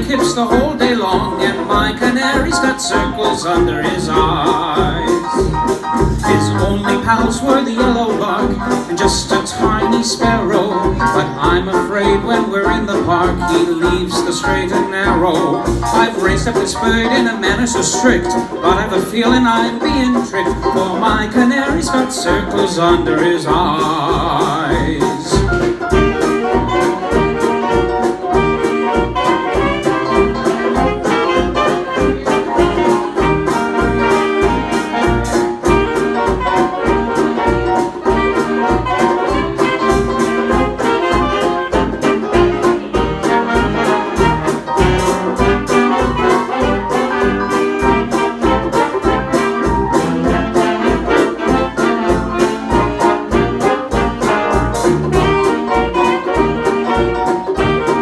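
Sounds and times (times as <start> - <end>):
brass playing the tune: 0.0 - 58.0
jazz dance band: 0.0 - 58.0.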